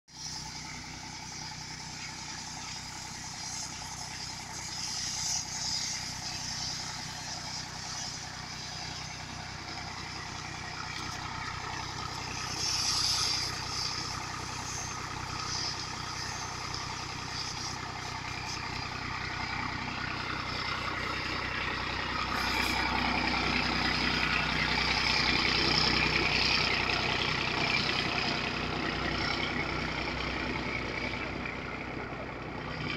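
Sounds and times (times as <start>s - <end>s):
tractor diesel engine running: 0.0s - 32.9s
water jet hiss: 0.1s - 31.8s.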